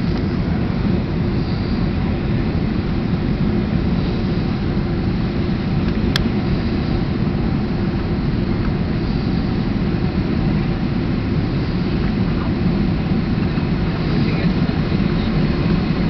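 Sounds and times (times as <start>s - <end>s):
jet engines low rumble: 0.0s - 16.0s
rushing air: 0.0s - 16.0s.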